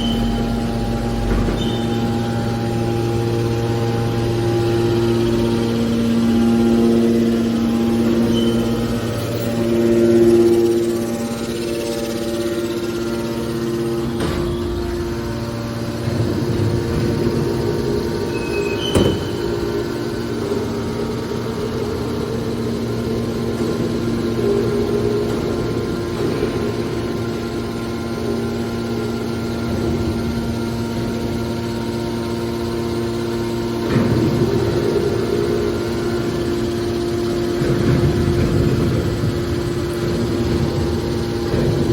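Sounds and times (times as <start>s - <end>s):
baler machine humming: 0.0s - 41.9s.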